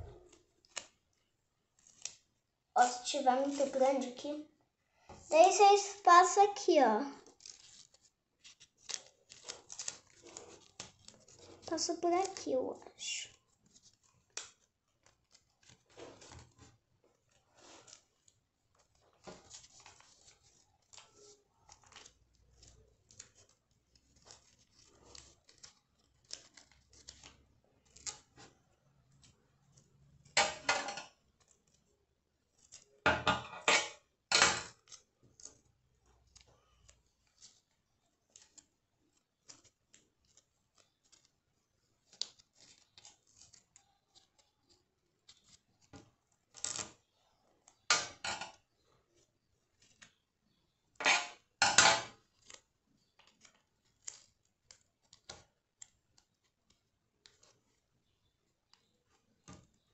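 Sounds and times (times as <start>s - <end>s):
paper rustling and crinkling: 0.0s - 4.4s, 5.4s - 30.4s, 31.1s - 33.0s, 34.7s - 59.9s.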